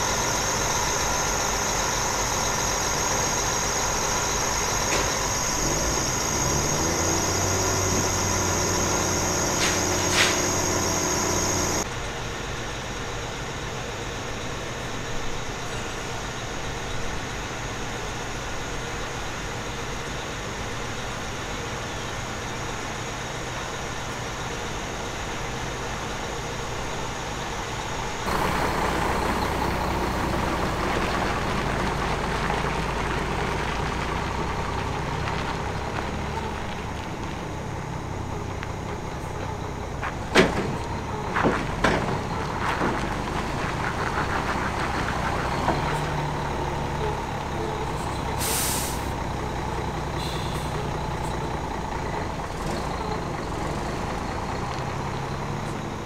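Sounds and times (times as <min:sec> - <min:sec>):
heavy lorry engines running: 0:00.0 - 0:56.0.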